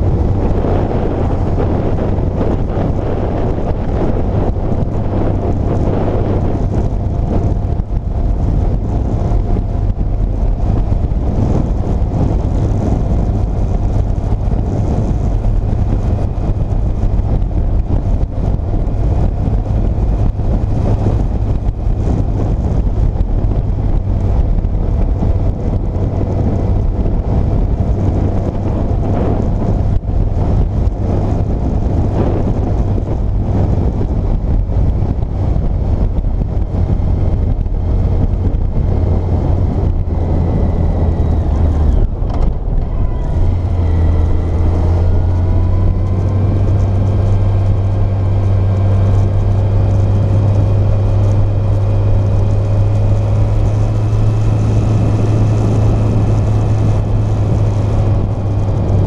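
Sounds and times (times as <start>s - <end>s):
motorcycle engine droning: 0.0s - 59.0s
wind rushing over microphone: 0.0s - 59.0s.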